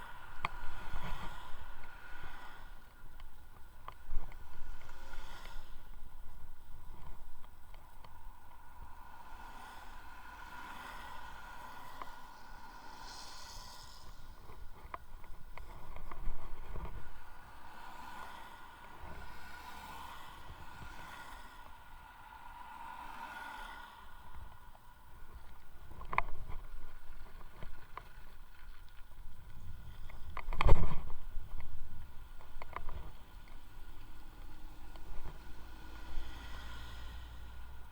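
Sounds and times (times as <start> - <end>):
wind rumble on microphone: 0.0 - 23.4, 24.0 - 37.9
faint steady whine: 0.0 - 37.9.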